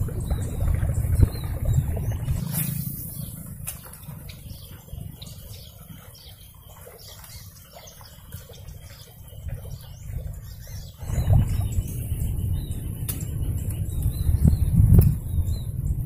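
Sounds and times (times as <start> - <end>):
low steady rumble: 0.0 - 6.5, 9.6 - 16.0
small birds chirping: 0.0 - 16.0.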